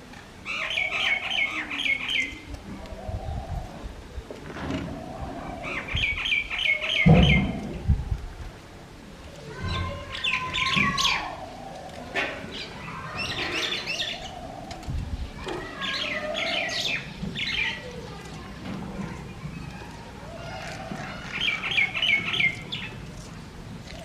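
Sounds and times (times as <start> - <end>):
birds chirping: 0.1 - 7.8, 9.0 - 24.0
lower bird calls: 0.4 - 7.8, 9.3 - 24.0.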